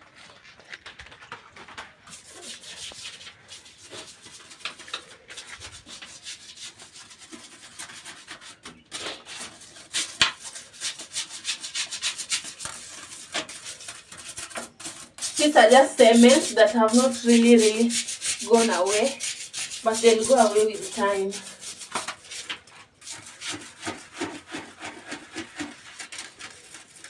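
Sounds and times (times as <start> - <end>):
scrubbing a hard surface: 2.0 - 27.0.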